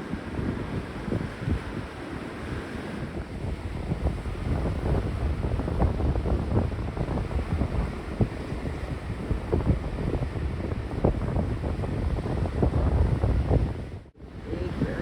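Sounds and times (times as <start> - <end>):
sea waves washing on shore: 0.0 - 13.5, 14.2 - 15.0
wind buffeting microphone: 0.0 - 15.0.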